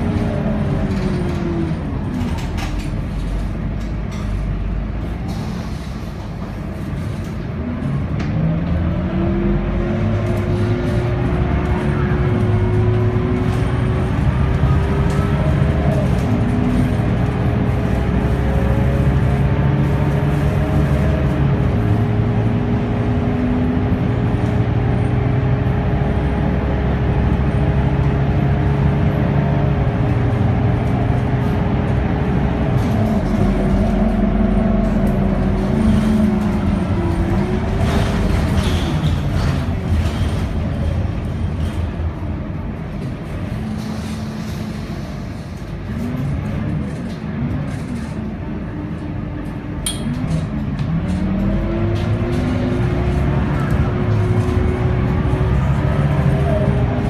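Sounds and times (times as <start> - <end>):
bus engine while driving: 0.0 - 57.0.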